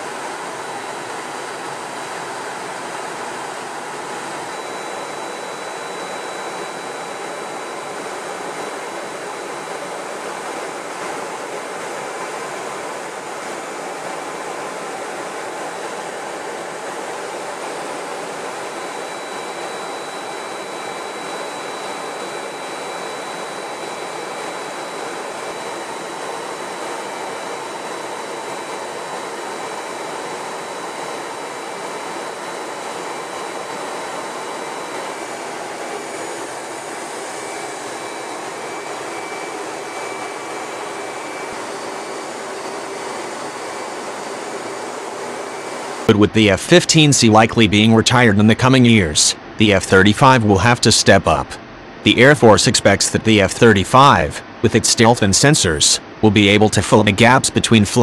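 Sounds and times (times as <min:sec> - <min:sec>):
faint high whines: 0:00.0 - 0:58.0.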